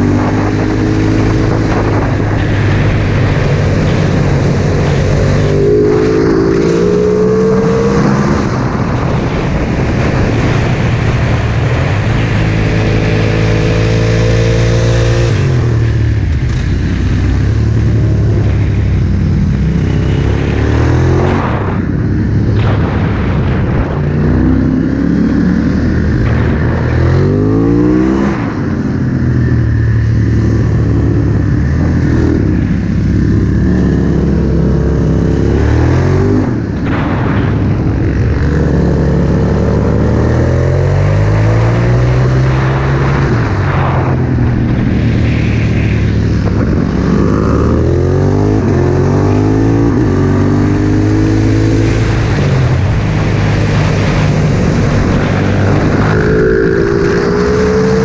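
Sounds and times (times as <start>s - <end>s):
motorcycle engine revving hard: 0.0s - 58.0s.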